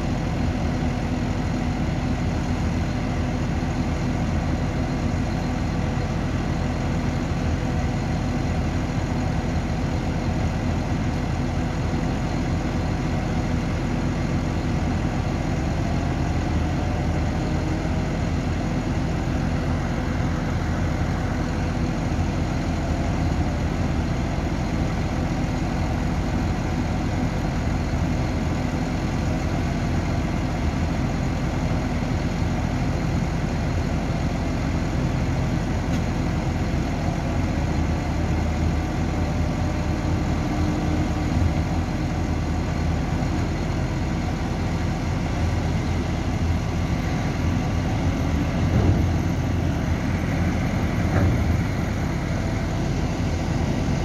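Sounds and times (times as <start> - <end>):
tractor diesel engines idling: 0.0 - 54.0.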